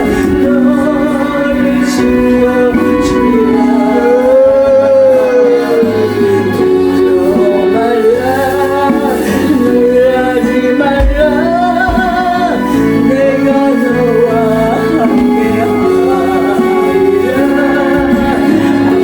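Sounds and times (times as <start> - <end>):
person singing gospel song: 0.0 - 19.0
sustained instrumental accompaniment: 0.0 - 19.0.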